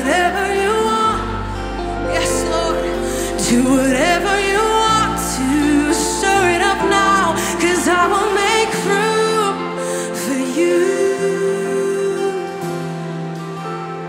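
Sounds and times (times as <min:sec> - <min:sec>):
deep sustained bass: 0:00.0 - 0:11.9
guitars: 0:00.0 - 0:14.0
keyboard: 0:00.0 - 0:14.0
person singing: 0:00.0 - 0:14.0.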